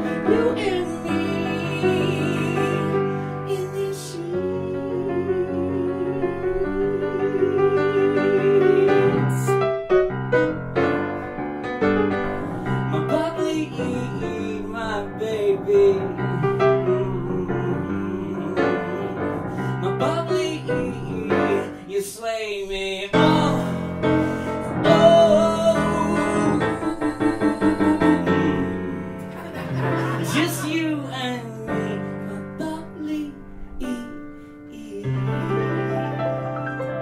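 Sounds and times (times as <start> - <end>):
piano playing: 0.0 - 37.0.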